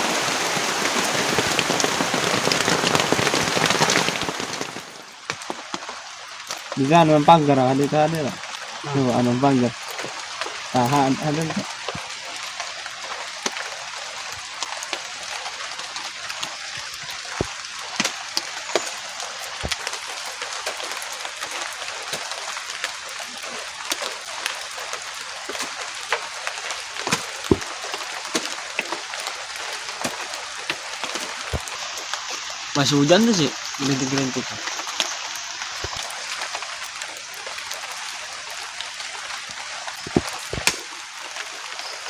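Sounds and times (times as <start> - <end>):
raindrops tapping nearby: 0.0 - 42.0
steady rain: 0.0 - 42.0.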